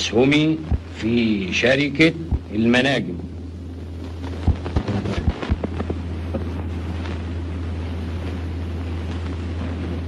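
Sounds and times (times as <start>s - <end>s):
film soundtrack hum and hiss: 0.0s - 10.0s.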